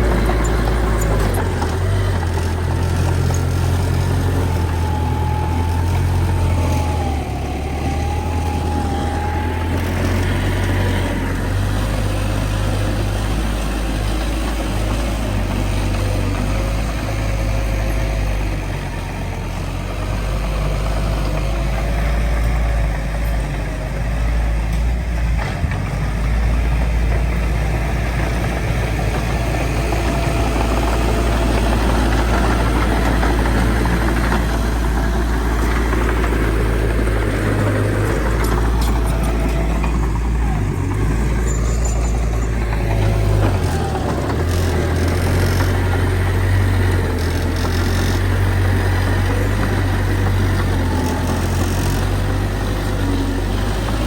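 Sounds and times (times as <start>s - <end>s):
heavy diesel engine rumbling: 0.0s - 54.0s.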